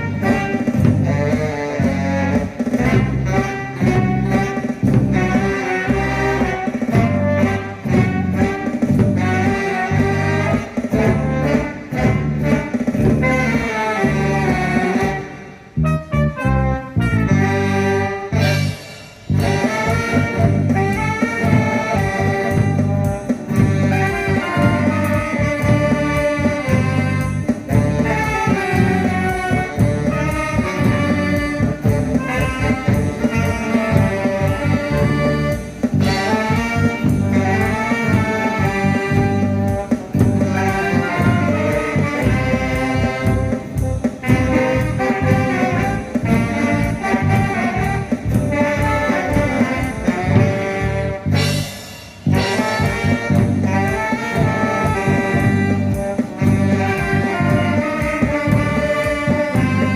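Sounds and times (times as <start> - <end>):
live band with saxophone and brass: 0.0 - 59.9.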